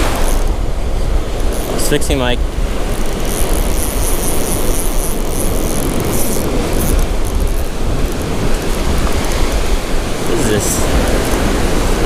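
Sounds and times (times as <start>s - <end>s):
fishing reel whirring: 0.0s - 12.0s
surf breaking: 0.0s - 12.0s
wind rumbling on microphone: 0.0s - 12.0s.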